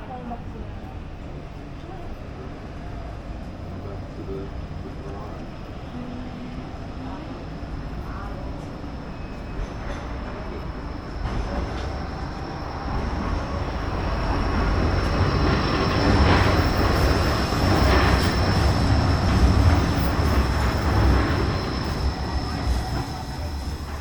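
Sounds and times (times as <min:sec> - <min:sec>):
tram passing with wheel noise: 0:00.0 - 0:24.0.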